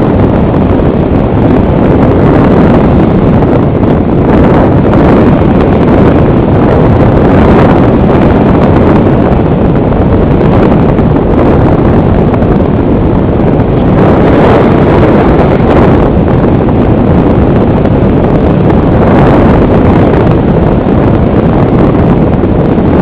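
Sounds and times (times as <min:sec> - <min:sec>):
wind rushing on microphone: 0:00.0 - 0:23.0.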